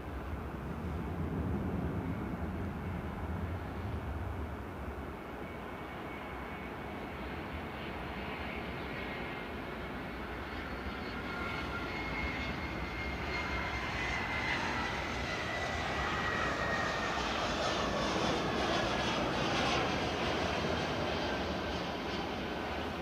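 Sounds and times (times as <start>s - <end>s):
jet engine turbine whine: 0.0s - 23.0s.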